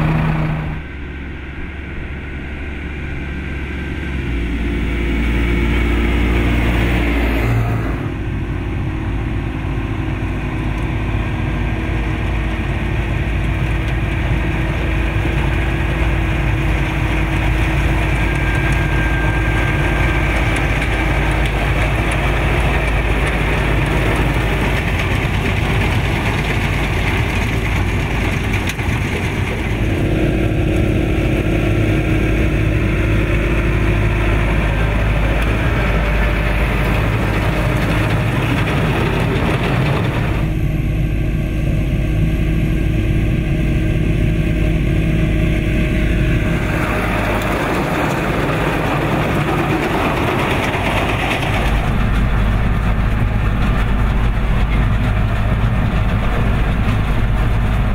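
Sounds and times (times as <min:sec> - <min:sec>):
round baler working: 0:00.0 - 0:57.9
tractor diesel engine under load: 0:00.0 - 0:57.9.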